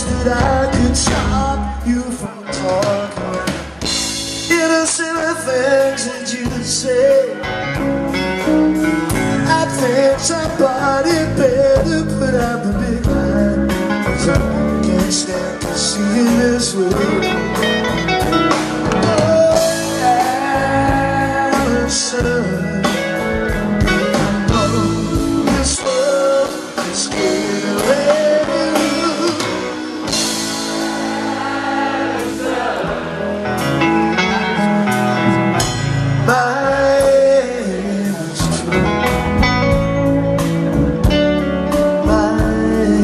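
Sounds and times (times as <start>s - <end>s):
man singing: 0.0s - 7.8s, 9.1s - 30.6s, 32.8s - 43.0s
bass guitar: 0.0s - 43.0s
drums: 0.0s - 43.0s
electric guitar: 0.0s - 43.0s.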